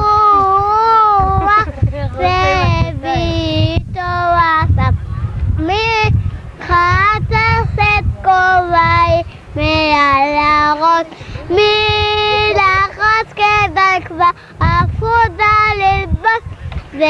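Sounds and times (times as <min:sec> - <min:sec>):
boy singing unaccompanied: 0:00.0 - 0:17.0.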